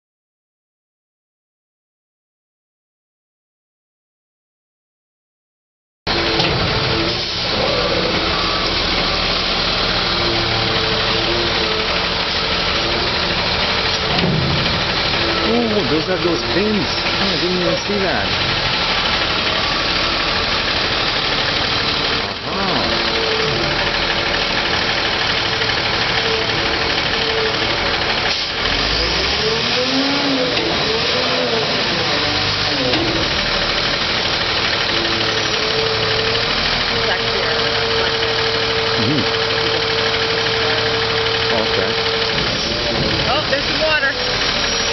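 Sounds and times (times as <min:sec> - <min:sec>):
truck engine idling: 0:06.1 - 0:44.9.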